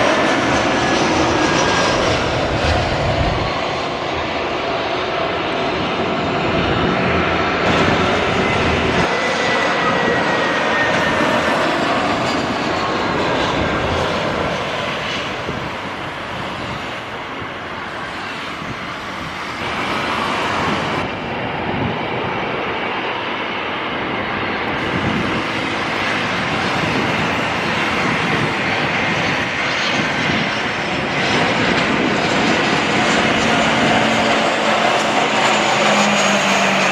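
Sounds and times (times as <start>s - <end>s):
airliner engines running: 0.0s - 36.9s.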